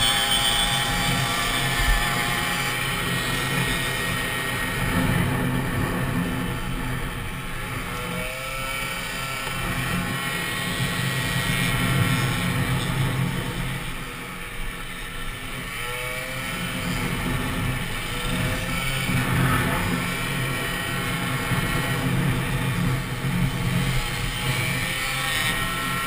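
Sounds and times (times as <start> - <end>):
moped engine running flat out: 0.0 - 26.0.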